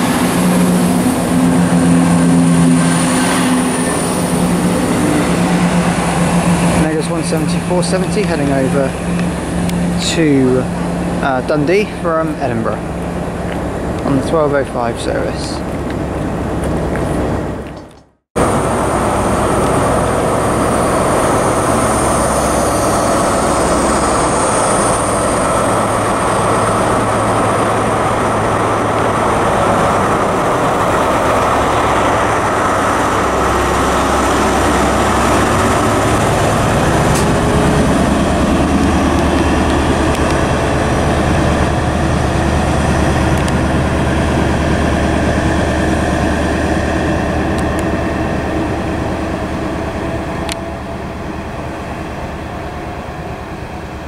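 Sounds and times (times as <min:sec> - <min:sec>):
deep engine hum: 0:00.0 - 0:54.0
diesel trains rumbling: 0:00.0 - 0:54.0.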